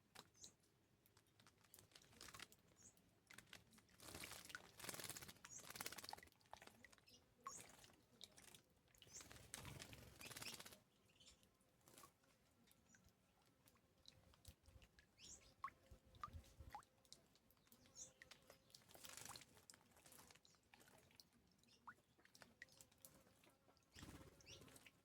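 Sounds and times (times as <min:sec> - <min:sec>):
small birds chirping: 0:00.0 - 0:25.0
wings fluttering in water: 0:00.0 - 0:25.0.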